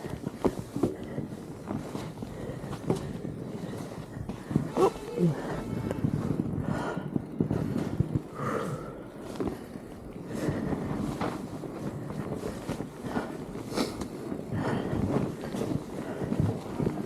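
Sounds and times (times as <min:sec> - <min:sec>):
tyre noise on snow: 0:00.0 - 0:17.0
wind on microphone: 0:00.0 - 0:17.0.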